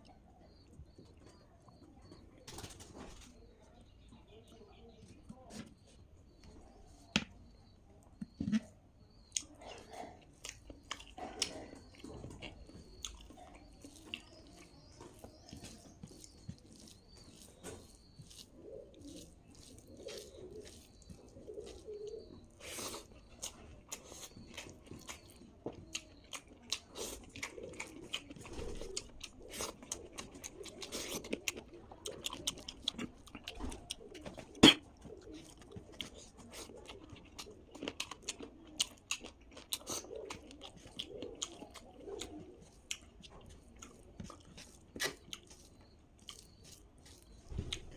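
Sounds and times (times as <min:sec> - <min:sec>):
person chewing: 0:08.2 - 0:47.9.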